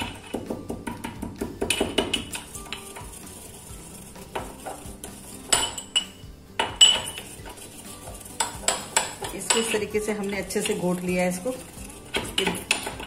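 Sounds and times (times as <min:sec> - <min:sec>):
pestle tapping steel mortar: 0:00.0 - 0:03.2, 0:04.2 - 0:13.0.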